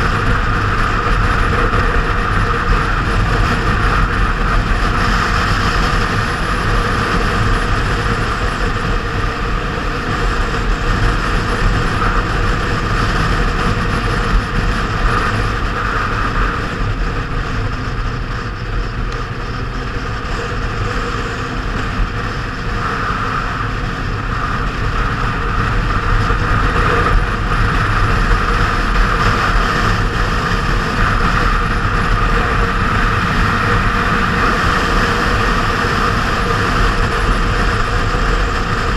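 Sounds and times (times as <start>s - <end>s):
motorcycle engine running: 0.0s - 38.9s
road and wind noise: 0.0s - 38.9s.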